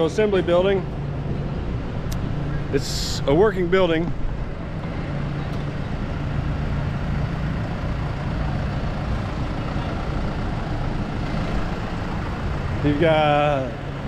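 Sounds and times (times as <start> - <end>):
forklift diesel engine humming: 0.0 - 14.0.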